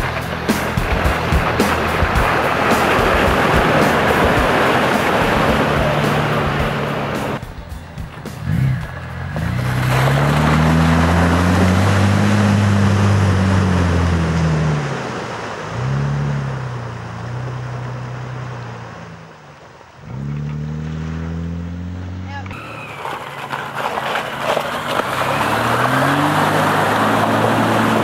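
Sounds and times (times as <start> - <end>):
off-road engines revving: 0.0 - 28.0
tyres splashing through mud: 0.0 - 28.0.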